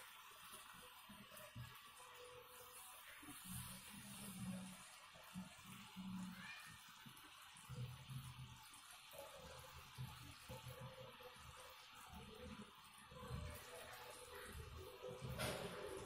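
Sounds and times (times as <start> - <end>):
syrup boiling and bubbling: 0.0 - 16.0.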